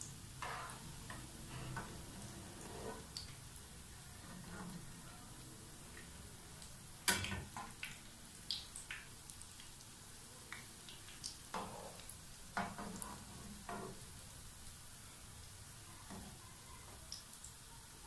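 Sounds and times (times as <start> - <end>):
bread rolls sizzling in hot oil: 0.0 - 18.0.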